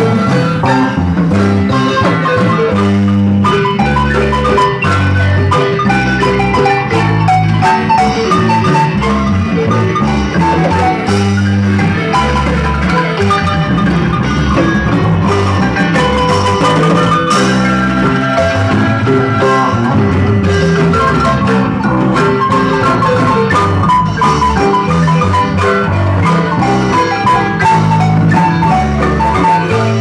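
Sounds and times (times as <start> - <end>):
amplified marimba melody: 0.0 - 30.0.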